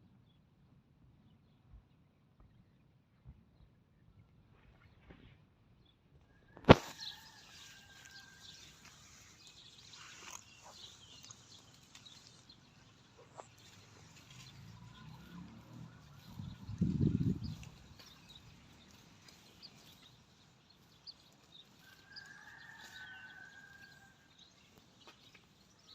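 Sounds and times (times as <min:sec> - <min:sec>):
faint outdoor ambience: 0:00.0 - 0:25.9.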